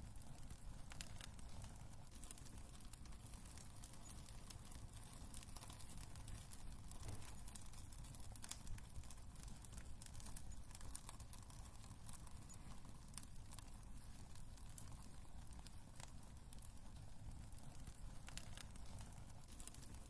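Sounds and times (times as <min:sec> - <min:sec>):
fire low rumble: 0:00.0 - 0:20.0
wood fire crackling: 0:00.0 - 0:20.0.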